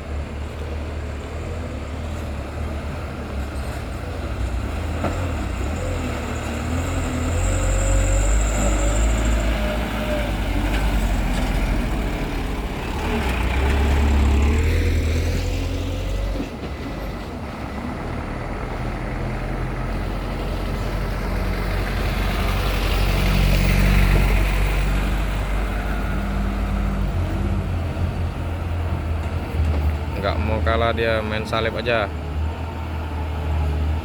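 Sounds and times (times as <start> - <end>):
diesel truck engine labouring: 0.0 - 34.0.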